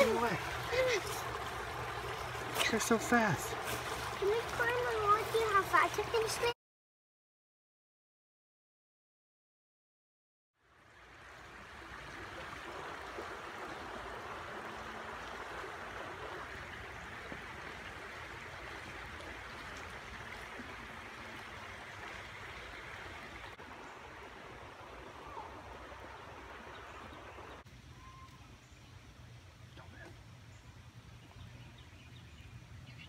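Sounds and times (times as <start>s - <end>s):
creek water rushing: 0.0s - 6.6s, 10.6s - 32.9s.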